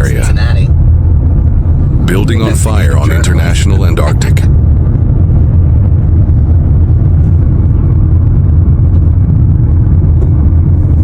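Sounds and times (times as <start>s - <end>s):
car low rumble: 0.0s - 11.0s.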